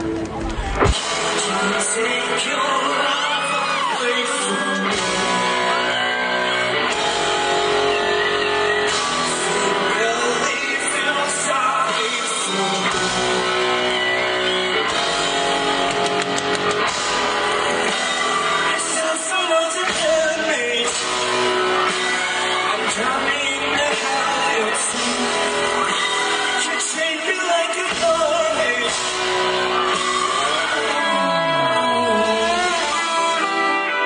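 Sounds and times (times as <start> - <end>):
drums: 0.0 - 34.0
keyboards: 0.0 - 34.0
man singing: 1.1 - 7.0, 8.4 - 13.7, 17.4 - 34.0.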